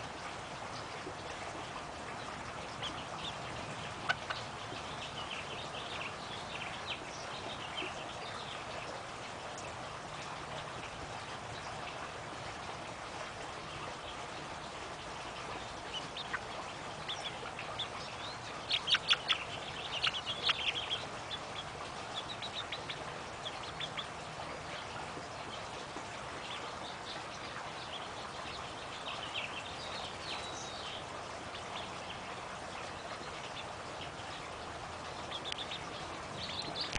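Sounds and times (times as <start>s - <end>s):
steady low hiss: 0.0s - 36.9s
hens chirping and clucking: 2.0s - 9.0s, 13.1s - 36.9s.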